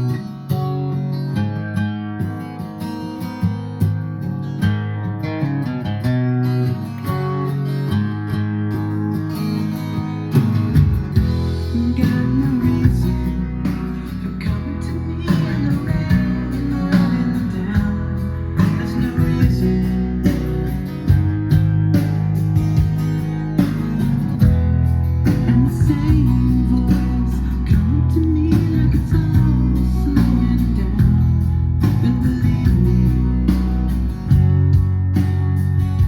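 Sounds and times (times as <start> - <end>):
guitar-led music with heavy bass: 0.0 - 36.0.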